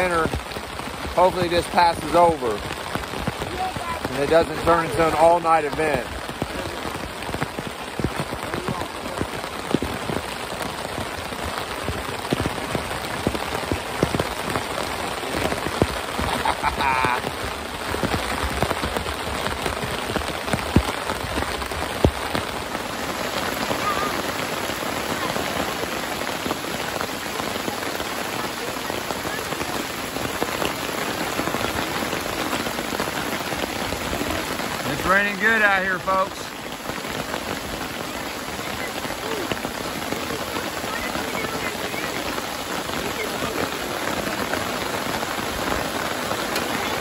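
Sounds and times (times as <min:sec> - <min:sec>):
heavy rain on a tarp: 0:00.0 - 0:47.0.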